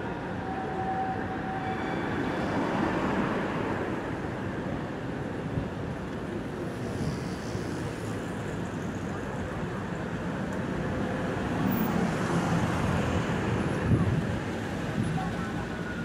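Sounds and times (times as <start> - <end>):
city traffic noise: 0.0 - 16.0
tram approaching: 0.0 - 16.0.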